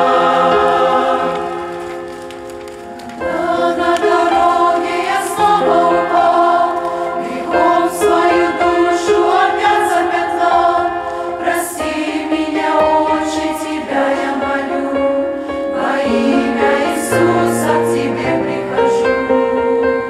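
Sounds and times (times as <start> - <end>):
choir singing a hymn: 0.0 - 2.2, 3.1 - 20.0.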